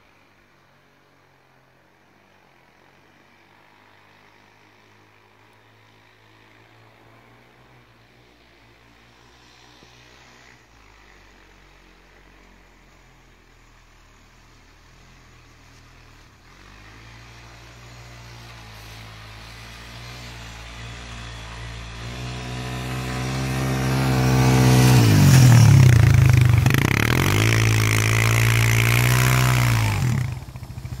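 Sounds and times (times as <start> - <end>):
quad bike engine running: 4.0 - 31.0.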